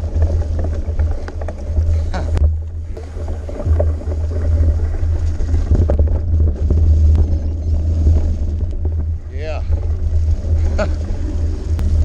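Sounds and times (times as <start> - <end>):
bike rattling over bumps: 0.0 - 12.0
bike tyre noise: 0.0 - 12.0
wind buffeting microphone: 0.0 - 12.0.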